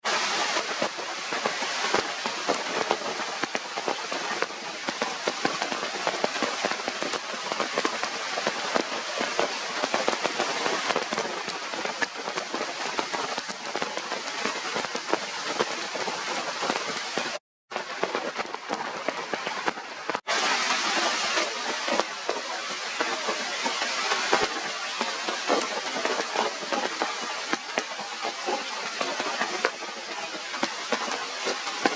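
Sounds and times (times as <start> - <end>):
heavy rain falling: 0.1 - 31.9.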